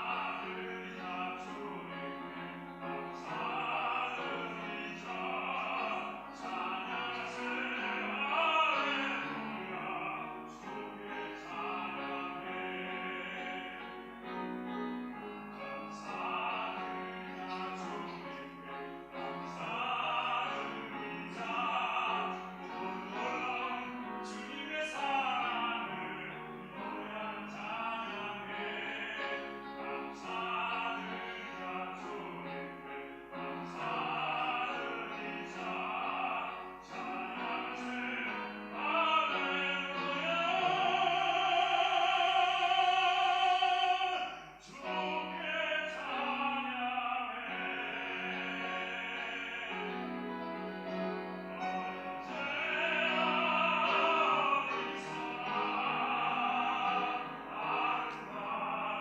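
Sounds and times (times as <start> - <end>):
baritone singing operatically: 0.0 - 14.2, 15.4 - 59.0
piano accompaniment: 0.0 - 59.0.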